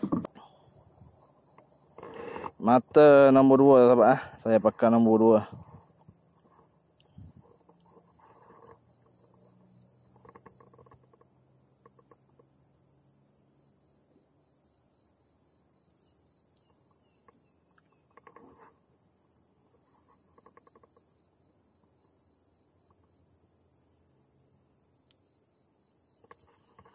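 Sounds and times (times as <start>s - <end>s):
insect chirping: 0.0s - 26.9s.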